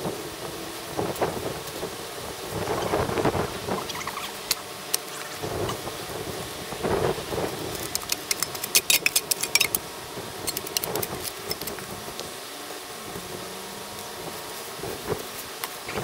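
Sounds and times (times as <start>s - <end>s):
faint engine hum: 0.0s - 16.0s.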